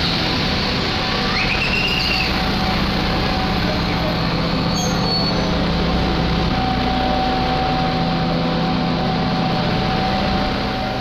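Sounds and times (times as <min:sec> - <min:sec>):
train engine idling: 0:00.0 - 0:11.0.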